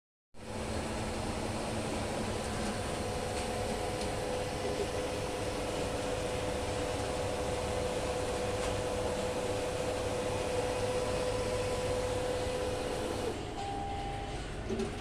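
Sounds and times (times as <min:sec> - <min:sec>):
atm machine humming: 0:00.5 - 0:14.6.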